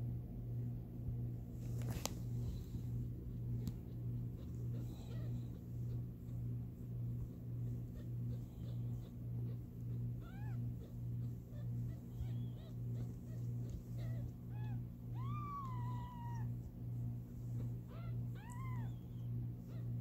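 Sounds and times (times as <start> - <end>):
newborn kittens mewing: 1.8 - 20.0.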